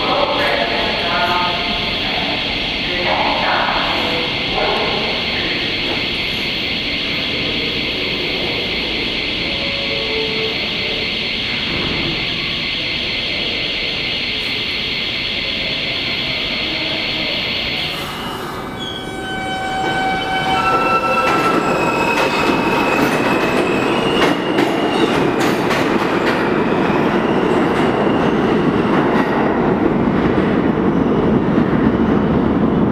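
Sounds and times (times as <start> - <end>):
subway train propulsion whine: 0.0 - 32.9.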